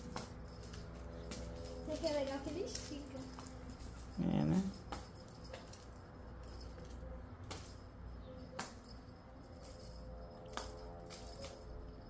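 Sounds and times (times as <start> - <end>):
low steady hum: 0.0 - 12.0
toy clicks and rattles: 0.0 - 12.0.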